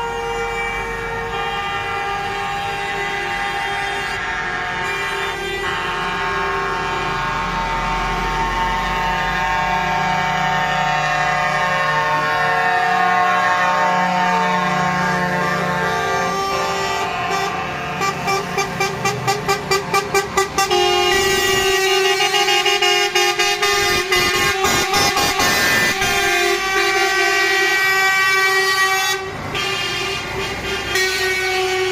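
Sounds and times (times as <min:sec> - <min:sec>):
horn tooting: 0:00.0 - 0:31.9
lorry engines passing: 0:00.0 - 0:31.9
truck air horns blaring: 0:00.0 - 0:31.9.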